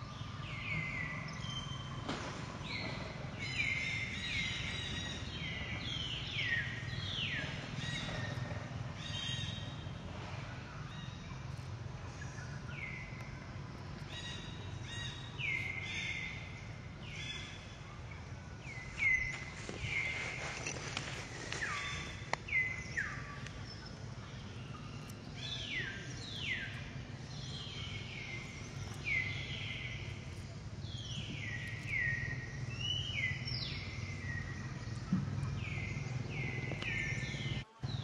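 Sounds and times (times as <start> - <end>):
birds calling: 0.0 - 38.0
low background hum: 0.0 - 38.0.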